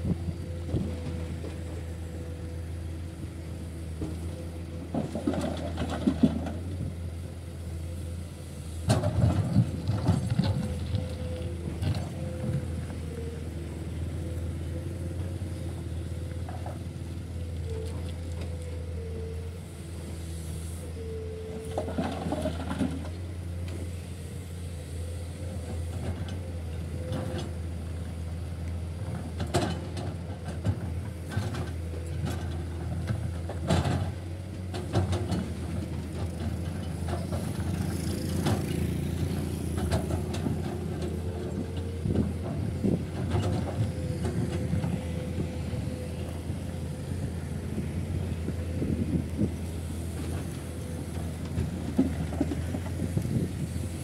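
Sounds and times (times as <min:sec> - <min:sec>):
excavator diesel hum: 0:00.0 - 0:54.0.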